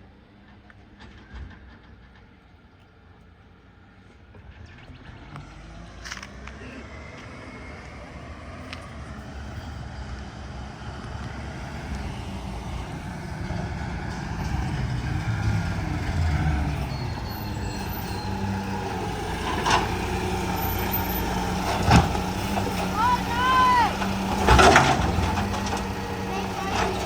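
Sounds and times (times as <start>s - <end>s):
garbage truck diesel engine: 0.0s - 27.0s.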